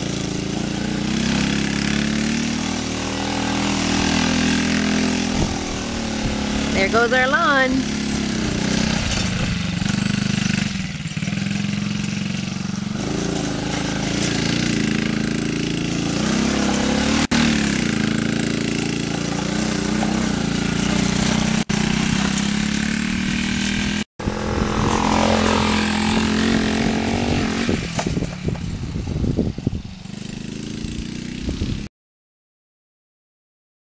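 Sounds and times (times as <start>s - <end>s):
small engine revving: 0.0s - 31.9s.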